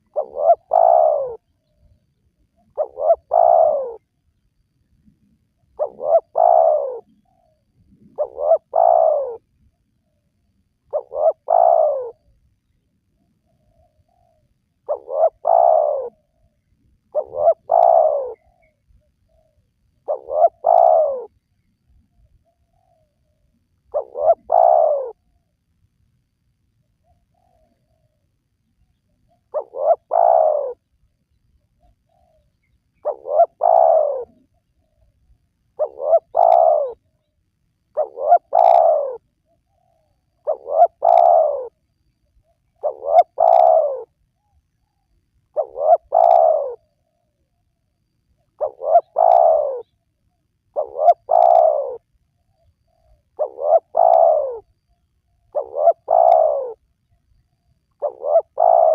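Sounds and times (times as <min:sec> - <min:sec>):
dove cooing: 0:00.0 - 0:04.1, 0:05.0 - 0:10.2, 0:10.9 - 0:12.4, 0:13.2 - 0:21.4, 0:22.4 - 0:25.5, 0:27.0 - 0:28.2, 0:29.2 - 0:30.9, 0:31.8 - 0:35.2, 0:35.8 - 0:37.3, 0:37.9 - 0:47.6, 0:48.4 - 0:56.9, 0:57.8 - 0:58.9.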